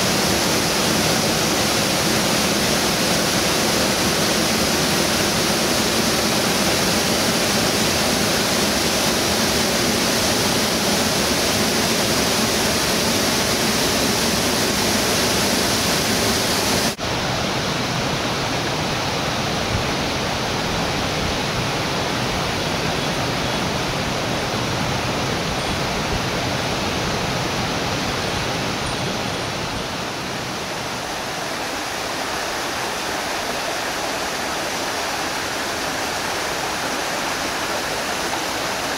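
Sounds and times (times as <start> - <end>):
river cascades pouring over rocks: 0.0 - 38.9.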